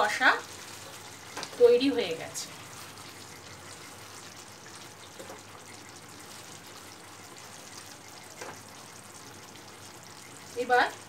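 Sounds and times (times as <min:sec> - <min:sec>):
wooden spatula stirring: 0:00.0 - 0:10.6
curry sizzling and bubbling in pan: 0:00.0 - 0:11.0.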